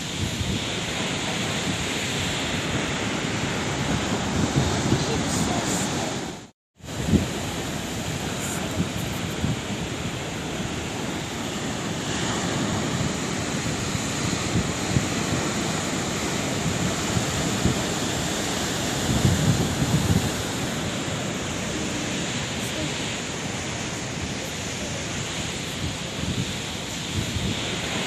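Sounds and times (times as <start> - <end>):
sea waves washing onto shore: 0.0 - 28.0.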